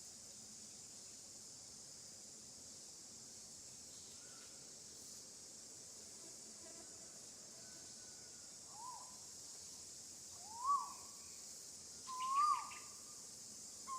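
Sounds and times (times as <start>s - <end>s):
steady high hiss: 0.0s - 13.9s.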